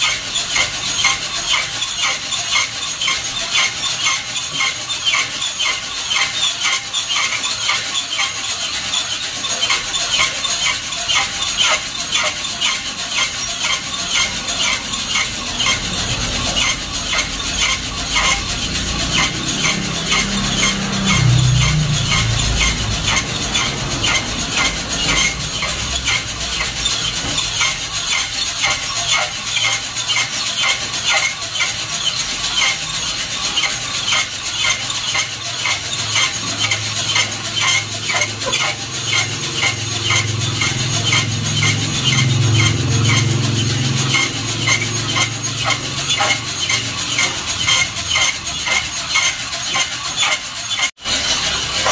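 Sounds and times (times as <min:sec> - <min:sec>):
coffee beans rattling in metal drum: 0:00.0 - 0:51.9.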